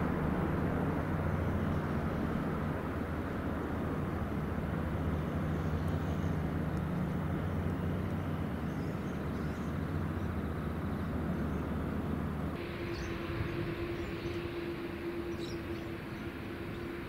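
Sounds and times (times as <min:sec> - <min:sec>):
engine whine: 0:00.0 - 0:17.0
jet engines rumbling: 0:00.0 - 0:17.0.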